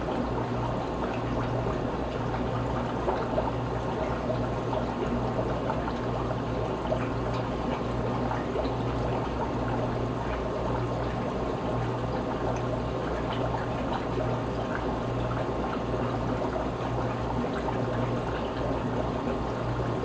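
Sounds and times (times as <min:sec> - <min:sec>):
aquarium water bubbling: 0:00.0 - 0:20.0.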